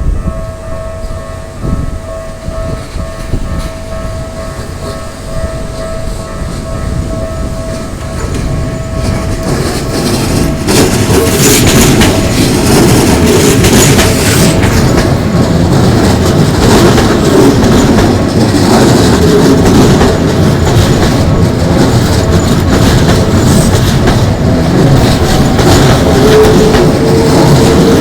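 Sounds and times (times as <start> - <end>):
electric train rumbling past: 0.0 - 28.0
wheels clicking over rail joints: 2.8 - 28.0.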